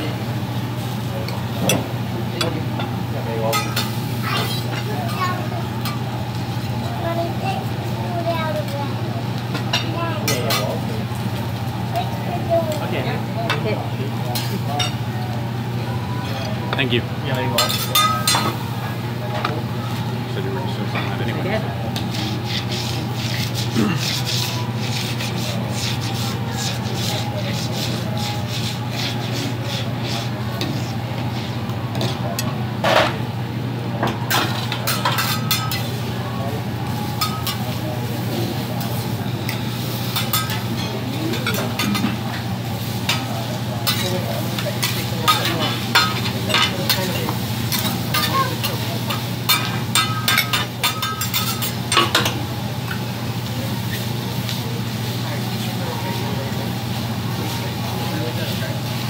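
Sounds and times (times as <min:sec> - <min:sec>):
vegetables sizzling on a griddle: 0:00.0 - 0:20.3, 0:21.1 - 0:32.5, 0:34.2 - 0:59.0.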